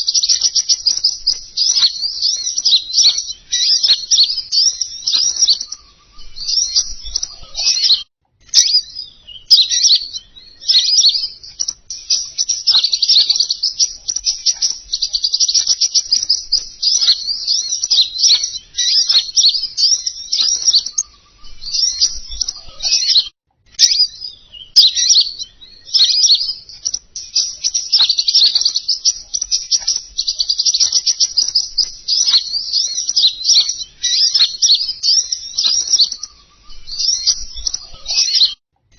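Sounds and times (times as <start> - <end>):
songbird chittering trills: 0.0 - 38.6.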